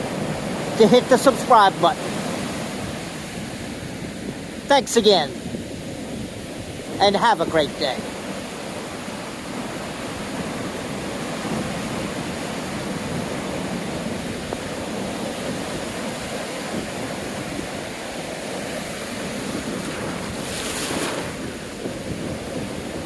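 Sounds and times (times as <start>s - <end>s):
storm surf breaking: 0.0s - 23.0s.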